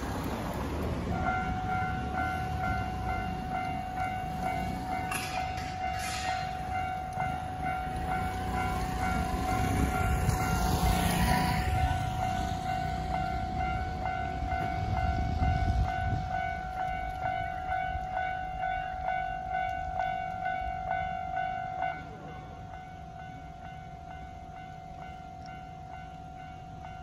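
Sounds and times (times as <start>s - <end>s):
level crossing warning bell ringing: 0.0s - 27.0s
road traffic rumbling: 0.0s - 27.0s.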